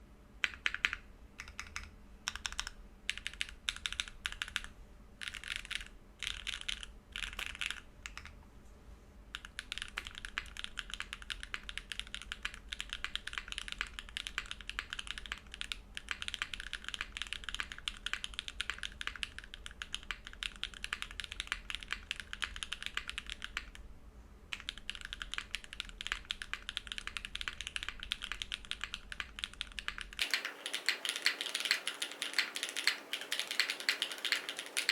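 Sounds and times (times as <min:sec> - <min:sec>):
mechanical keyboard typing: 0:00.4 - 0:08.4, 0:09.3 - 0:23.8, 0:24.5 - 0:34.9.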